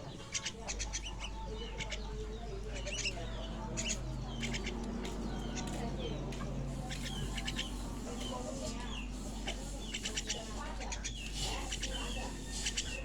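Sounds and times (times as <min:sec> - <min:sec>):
starlings calling: 0:00.0 - 0:13.0.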